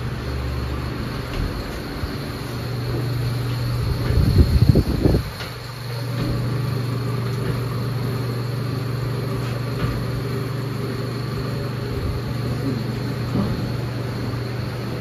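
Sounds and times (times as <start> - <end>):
ventilation machinery humming: 0.0 - 15.0.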